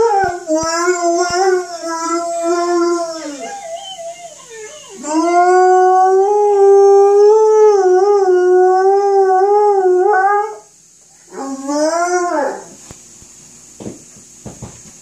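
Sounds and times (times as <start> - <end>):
dog howling: 0.0 - 10.7, 11.3 - 12.8.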